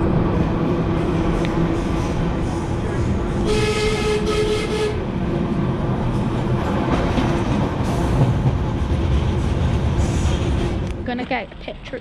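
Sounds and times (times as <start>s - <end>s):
train rumble and wheel noise: 0.0s - 12.0s.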